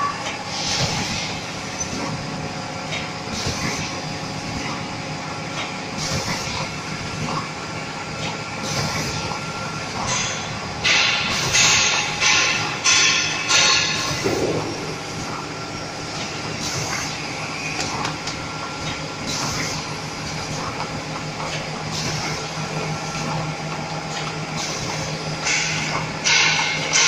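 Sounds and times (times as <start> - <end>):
packaging machine humming: 0.0 - 26.2.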